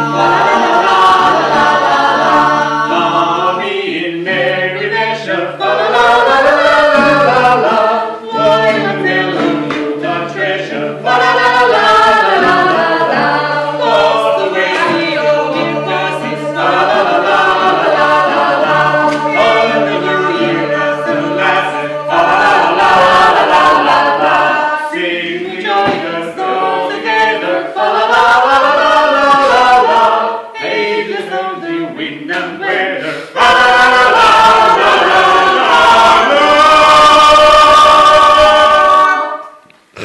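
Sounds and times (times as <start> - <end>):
group of men and women singing: 0.0 - 40.0.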